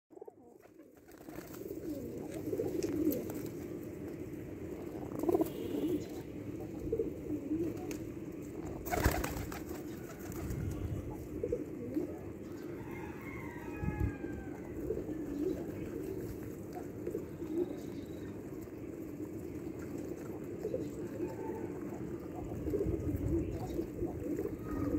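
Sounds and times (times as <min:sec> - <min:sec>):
pigeons cooing: 0:00.2 - 0:24.9.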